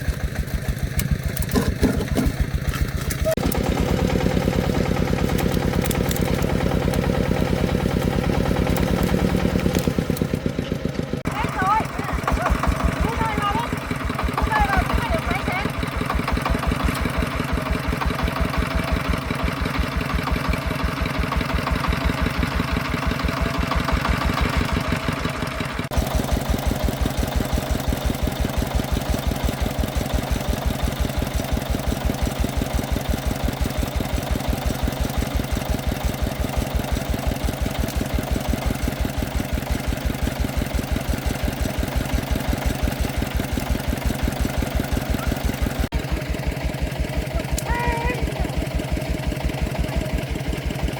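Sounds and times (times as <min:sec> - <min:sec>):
single-cylinder diesel engine running: 0:00.0 - 0:50.9.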